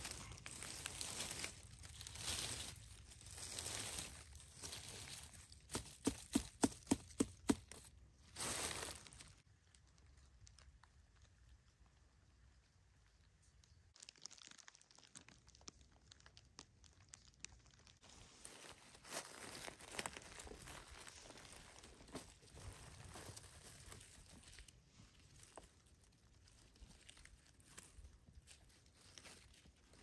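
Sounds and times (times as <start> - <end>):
rustling and crackling leaves: 0.0 - 11.5, 13.9 - 30.0.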